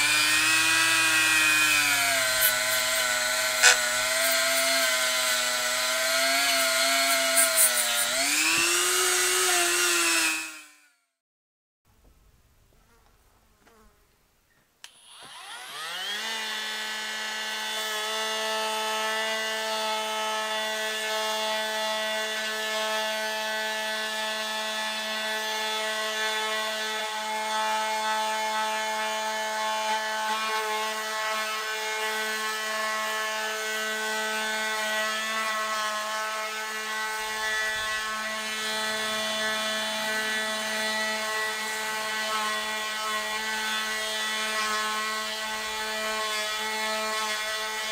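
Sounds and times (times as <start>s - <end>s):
oscillating multi-tool buzzing: 0.0s - 11.1s, 14.9s - 47.9s.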